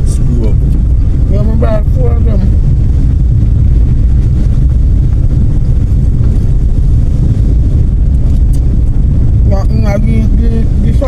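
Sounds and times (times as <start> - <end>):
car engine and road noise: 0.0 - 11.0
wind on microphone: 0.0 - 11.0.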